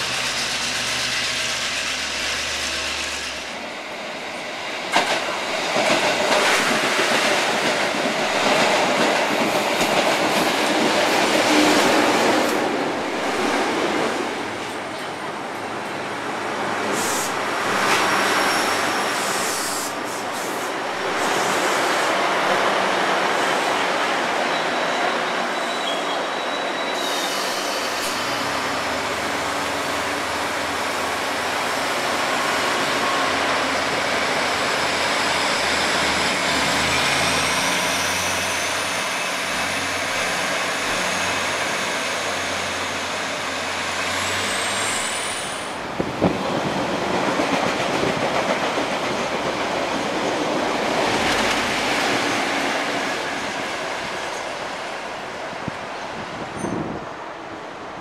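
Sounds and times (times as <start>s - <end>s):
train whine pulling away: 0.0s - 57.4s
diesel locomotive approaching: 0.0s - 58.0s.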